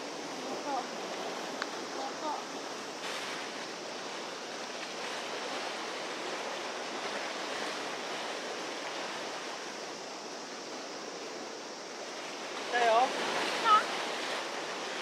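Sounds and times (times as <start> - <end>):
sea waves rushing at shore: 0.0 - 15.0
wind: 0.0 - 15.0.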